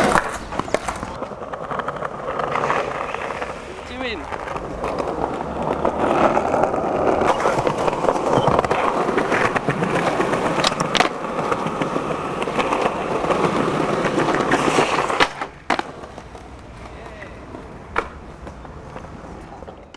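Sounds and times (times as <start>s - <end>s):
skateboard clacks: 0.0s - 19.9s
skateboard wheels rolling on pavement: 0.0s - 19.9s.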